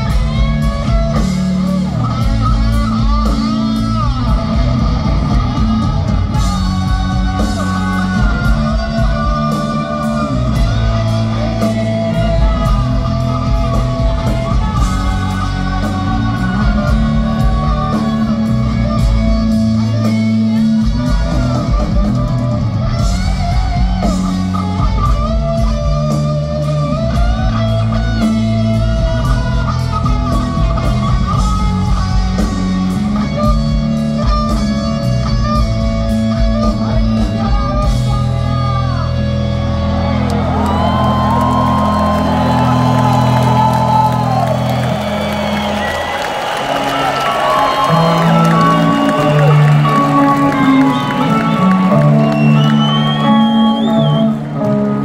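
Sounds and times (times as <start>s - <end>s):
drums: 0.0s - 55.0s
electric lead guitar: 0.0s - 55.0s
rock band playing live: 0.0s - 55.0s.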